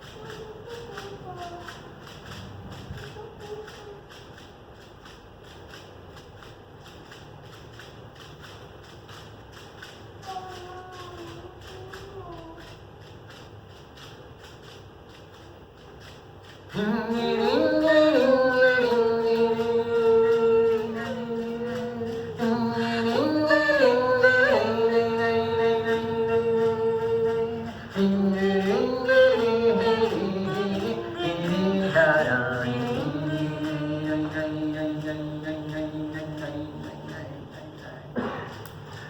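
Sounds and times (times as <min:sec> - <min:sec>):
person singing unaccompanied: 0:00.0 - 0:39.0.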